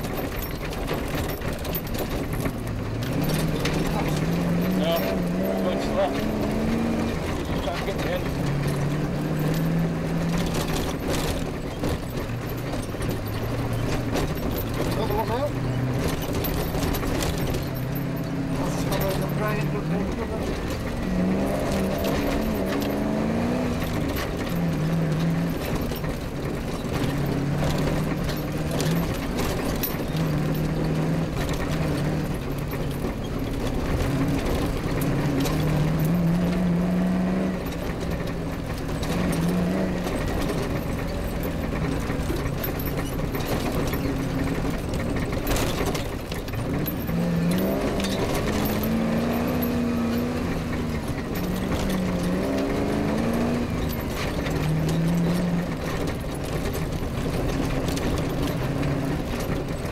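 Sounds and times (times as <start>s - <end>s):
bodywork knocks and rattles: 0.0s - 59.9s
rally car engine revving: 0.0s - 59.9s
wind and road noise: 0.0s - 59.9s.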